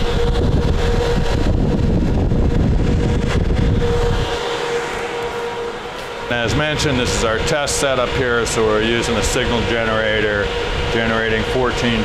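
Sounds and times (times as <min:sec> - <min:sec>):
constant hum: 0:00.0 - 0:12.0
cooling fans whirring: 0:00.0 - 0:12.0
heavy low rumble: 0:00.0 - 0:12.0.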